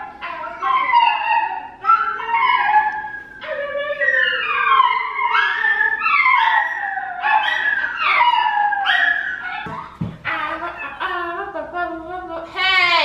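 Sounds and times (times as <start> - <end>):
dogs howling: 0.0 - 11.8.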